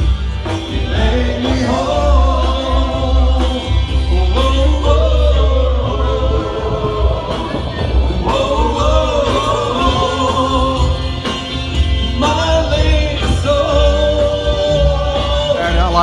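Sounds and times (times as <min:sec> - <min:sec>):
heavy steady bass: 0:00.0 - 0:16.0
live band playing: 0:00.0 - 0:16.0.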